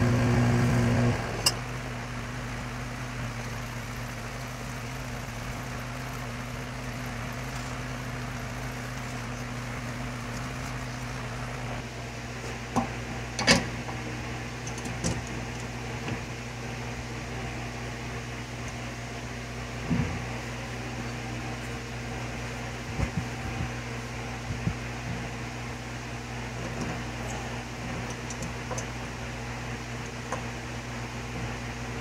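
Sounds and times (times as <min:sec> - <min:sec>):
mechanical fan hum: 0:00.0 - 0:32.0.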